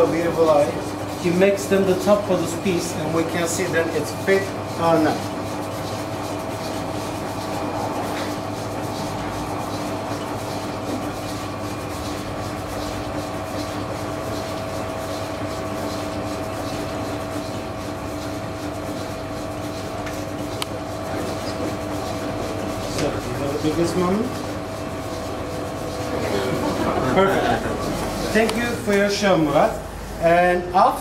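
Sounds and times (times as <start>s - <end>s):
potter's wheel motor humming: 0.0s - 31.0s.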